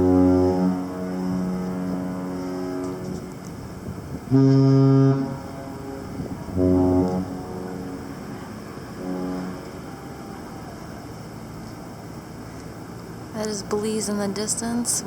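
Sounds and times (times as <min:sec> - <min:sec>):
ship horn blasts: 0:00.0 - 0:15.0.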